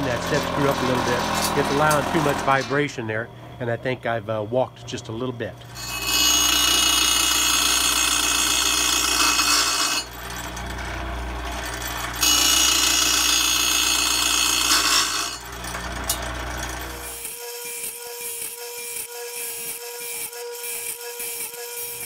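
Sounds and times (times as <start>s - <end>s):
grinder motor running: 0.0s - 2.8s, 5.5s - 22.0s
grinding wheel on saw teeth: 0.0s - 2.8s, 5.6s - 22.0s.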